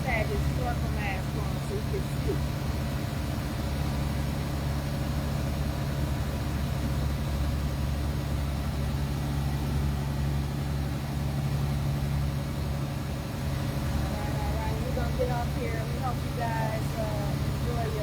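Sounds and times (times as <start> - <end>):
large engine droning: 0.0 - 18.0.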